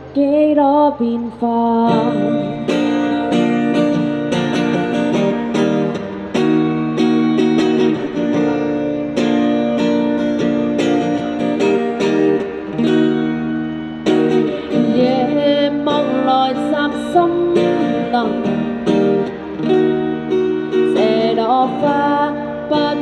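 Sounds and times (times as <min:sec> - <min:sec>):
guitar strumming and plucking chords: 0:00.0 - 0:23.0.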